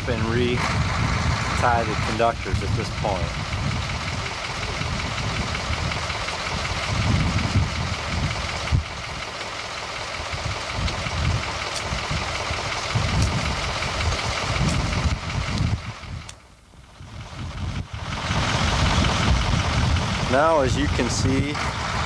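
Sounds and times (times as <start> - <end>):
wind rumble on microphone: 0.0 - 9.4, 10.2 - 22.0
truck engine running: 0.0 - 22.0.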